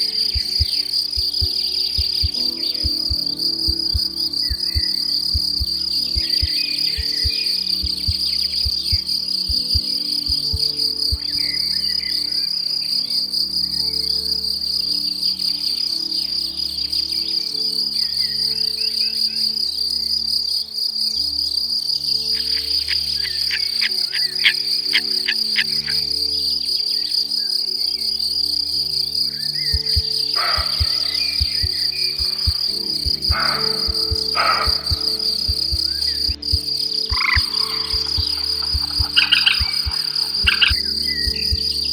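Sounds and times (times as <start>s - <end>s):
high-pitched insect trill: 0.0s - 41.9s
soft music with low notes: 0.0s - 41.9s.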